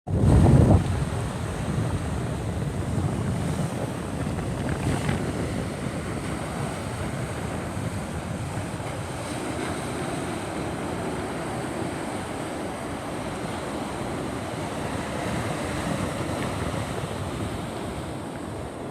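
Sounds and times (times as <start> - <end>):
rushing floodwater: 0.1 - 18.9
wind on microphone: 0.1 - 18.9.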